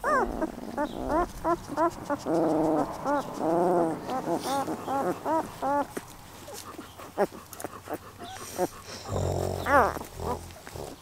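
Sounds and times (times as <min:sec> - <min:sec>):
puppies whining and squeaking: 0:00.0 - 0:11.0.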